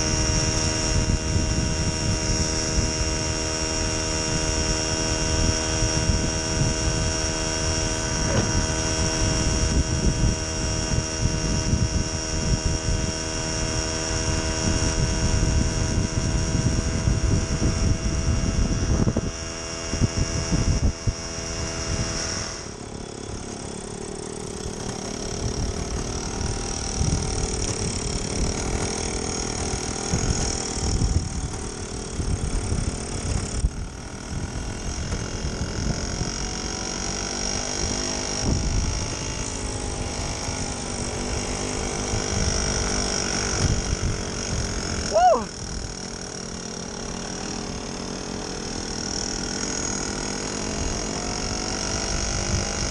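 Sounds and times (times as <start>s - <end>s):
wind rumbling on microphone: 0.0s - 46.0s, 50.7s - 52.9s
two-stroke moped engine running: 0.0s - 52.9s.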